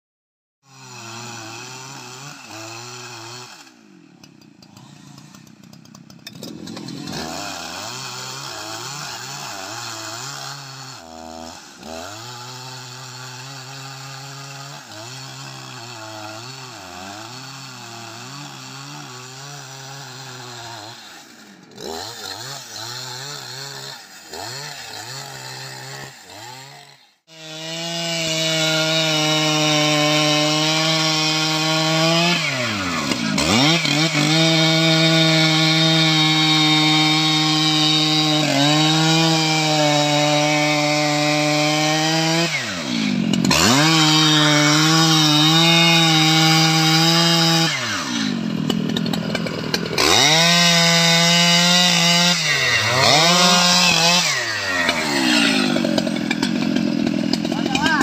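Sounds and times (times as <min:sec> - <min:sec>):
chainsaw cutting tree trunk: 0:00.7 - 0:58.0
chainsaw revving: 0:00.7 - 0:58.0.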